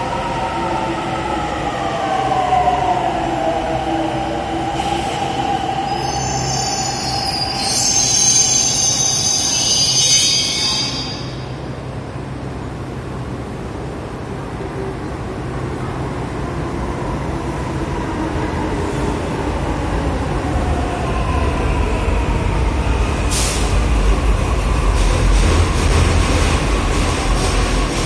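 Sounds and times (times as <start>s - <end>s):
train rumble and wheel noise: 0.0s - 28.0s.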